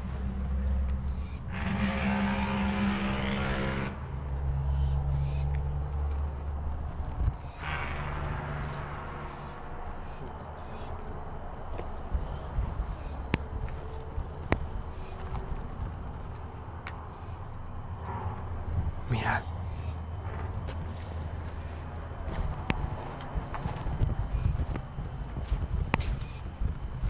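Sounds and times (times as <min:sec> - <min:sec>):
cricket chirping: 0:00.0 - 0:27.0
low rumble: 0:00.0 - 0:27.0.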